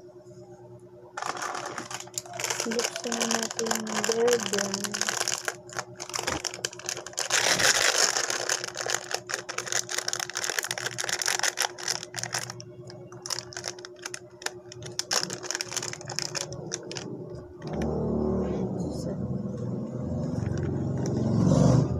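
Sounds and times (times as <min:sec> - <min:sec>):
plastic packet crinkling: 0:01.2 - 0:17.9, 0:20.2 - 0:21.3.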